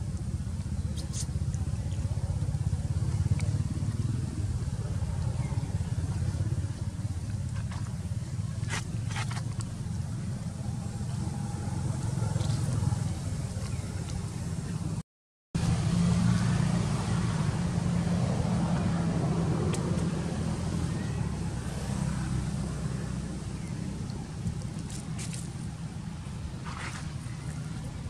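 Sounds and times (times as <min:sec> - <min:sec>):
low outdoor rumble: 0:00.0 - 0:15.0, 0:15.6 - 0:28.0.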